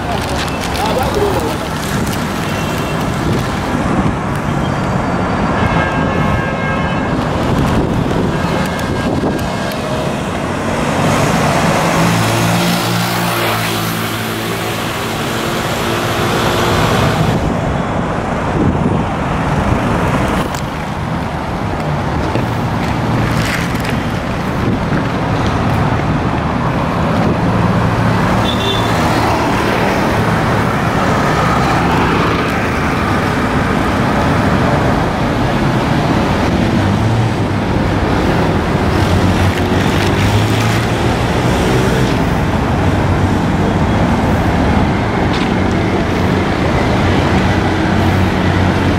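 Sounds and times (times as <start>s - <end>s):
traffic driving past: 0.0s - 48.9s.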